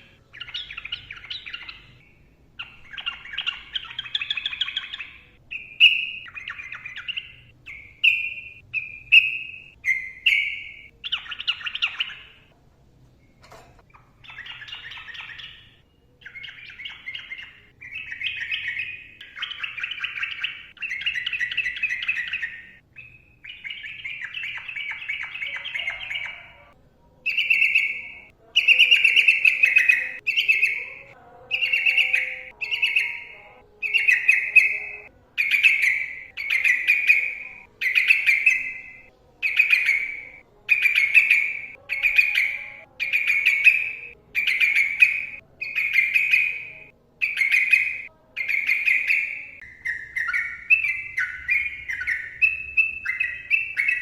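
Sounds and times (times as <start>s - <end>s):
bird singing bubbling phrases: 0.0s - 12.5s, 13.9s - 54.0s.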